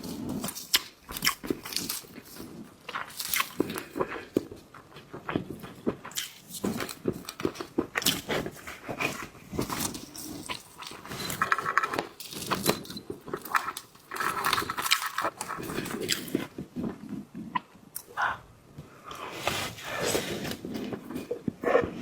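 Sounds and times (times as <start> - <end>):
chewing and crunching shellfish: 0.0 - 18.4.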